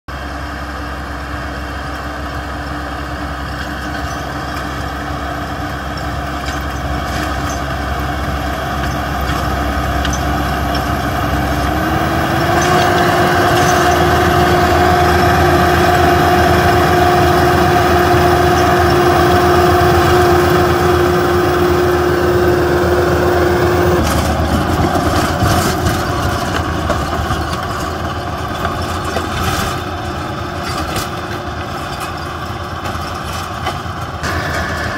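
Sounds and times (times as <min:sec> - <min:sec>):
tractor diesel engine under load: 0:00.1 - 0:34.9
steady whine: 0:00.3 - 0:34.9.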